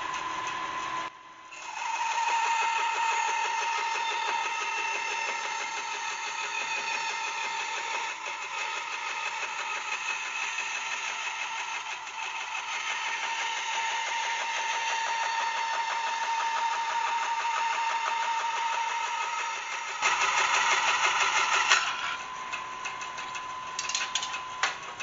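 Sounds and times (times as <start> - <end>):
band saw cutting wood: 0.0 - 22.4
band saw whine: 0.0 - 25.0.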